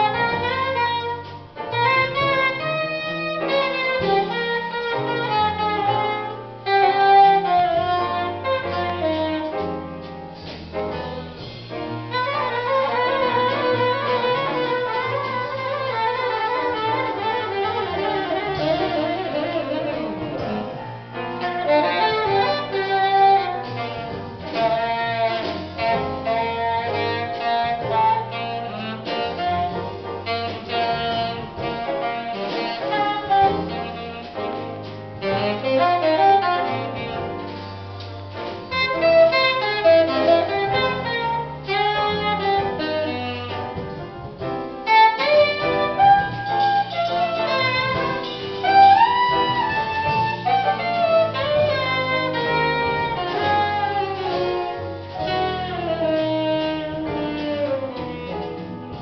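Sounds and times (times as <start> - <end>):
saxophone melody: 0.0 - 10.2, 11.2 - 59.0
drum kit: 0.0 - 59.0
grand piano: 0.0 - 59.0
upright double bass: 0.0 - 59.0.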